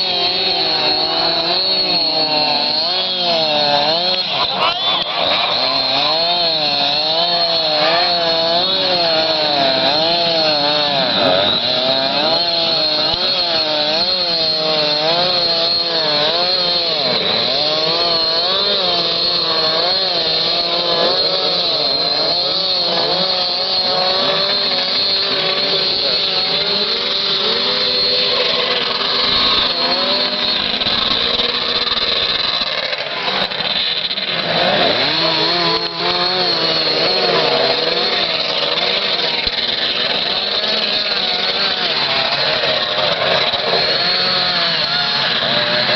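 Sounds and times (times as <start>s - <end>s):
snowmobile engine revving: 0.0s - 45.9s.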